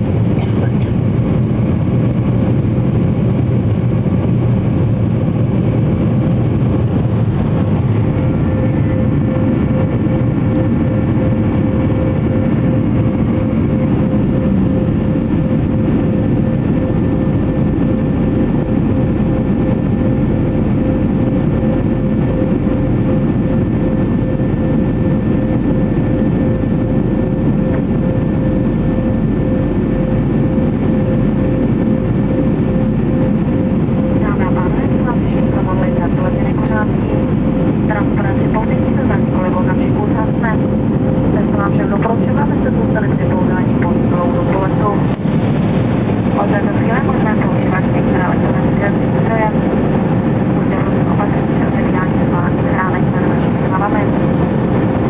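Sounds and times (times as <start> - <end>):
jet engines running: 0.0 - 55.0.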